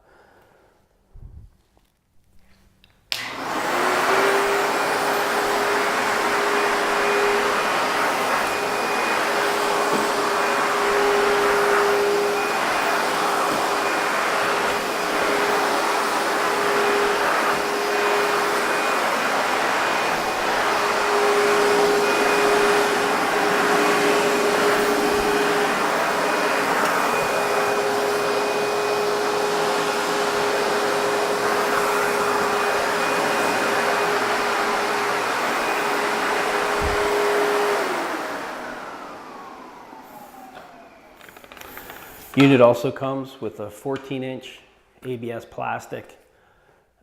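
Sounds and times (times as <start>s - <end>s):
vacuum motor running: 3.1s - 42.6s.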